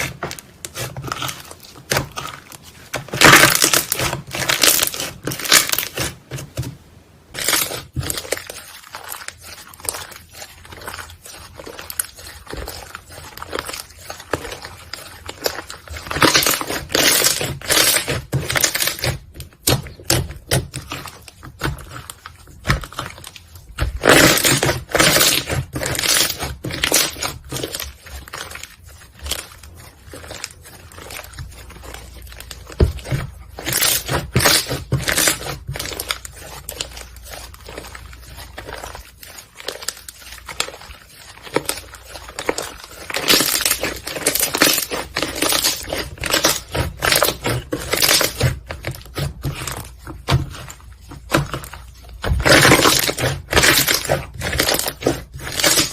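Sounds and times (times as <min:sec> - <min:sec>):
slime crackling and popping: 0:00.0 - 0:06.6, 0:07.3 - 0:55.9.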